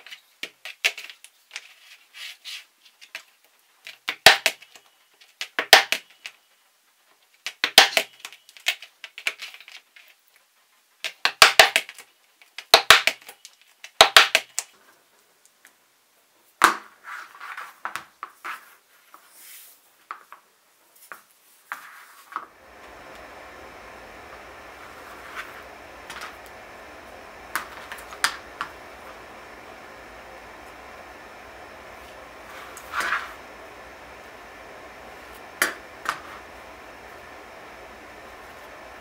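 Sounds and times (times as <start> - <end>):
faint steady hiss: 0.0 - 39.0.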